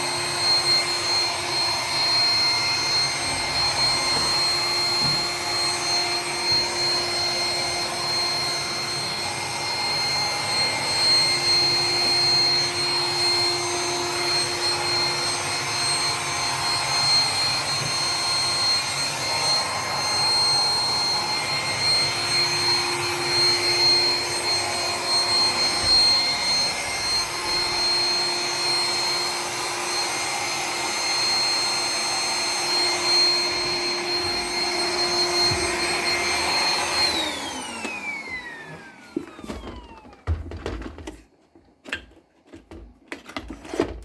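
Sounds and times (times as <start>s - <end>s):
robot vacuum running: 0.0s - 41.0s.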